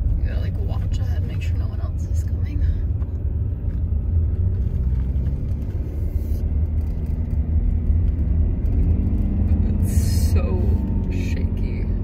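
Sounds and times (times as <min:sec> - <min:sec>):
car engine rumble: 0:00.0 - 0:12.0
road and tyre noise: 0:00.0 - 0:12.0.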